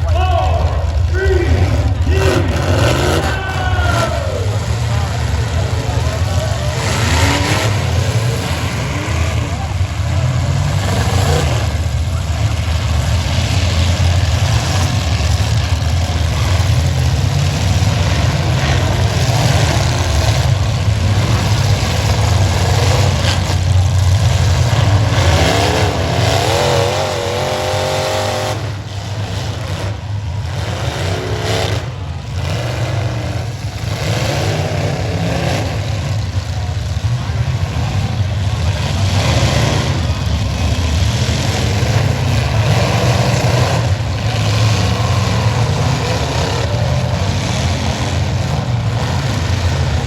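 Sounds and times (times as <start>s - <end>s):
car engines revving loudly: 0.0s - 50.0s.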